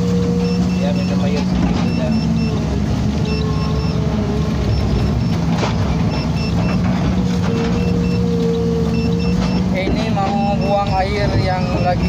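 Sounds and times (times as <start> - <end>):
diesel engine running under load: 0.0 - 12.0
electronic beeper pips: 0.3 - 6.8, 7.5 - 12.0.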